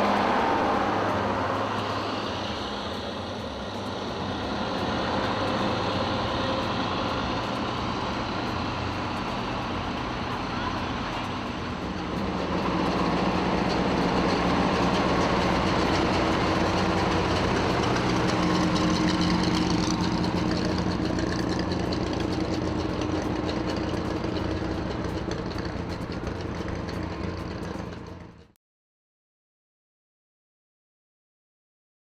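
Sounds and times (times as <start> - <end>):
truck engine idling: 0.0 - 28.6.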